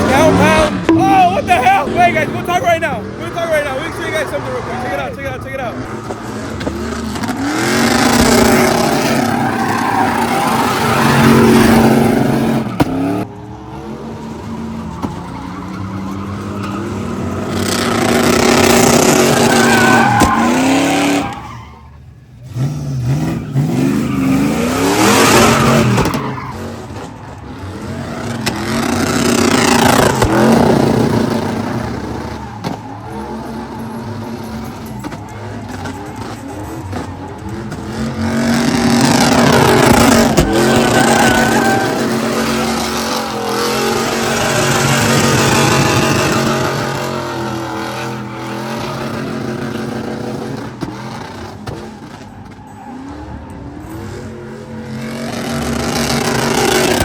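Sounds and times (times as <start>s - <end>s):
car engine revving: 0.0s - 57.0s
tyres squealing: 0.0s - 57.0s.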